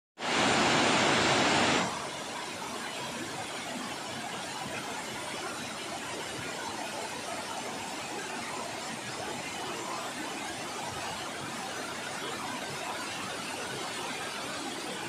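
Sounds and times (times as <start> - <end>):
waterfall rushing over rock: 0.2 - 15.0.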